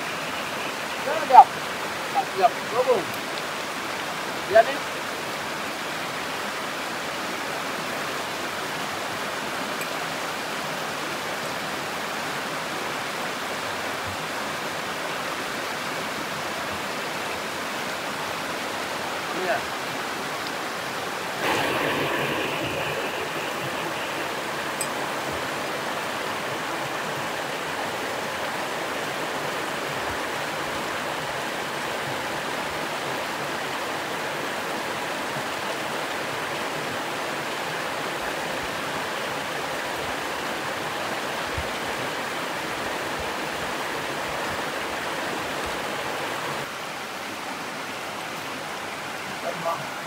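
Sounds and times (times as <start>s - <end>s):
stream rushing over rocks: 0.0s - 50.0s.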